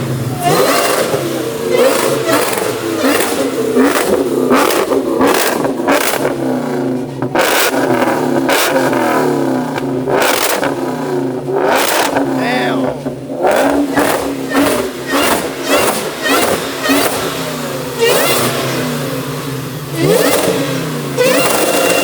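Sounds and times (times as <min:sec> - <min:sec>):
car engine revving: 0:00.0 - 0:22.0
exhaust bangs: 0:00.0 - 0:22.0.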